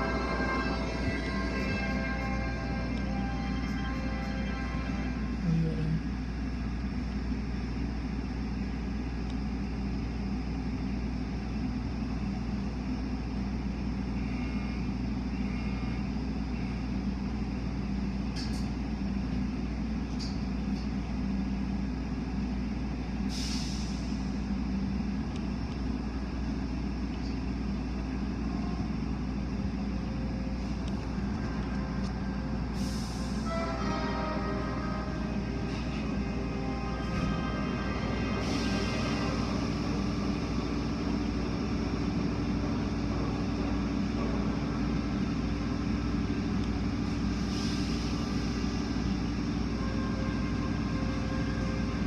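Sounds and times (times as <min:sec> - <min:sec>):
car wash machinery humming: 0:00.0 - 0:52.0.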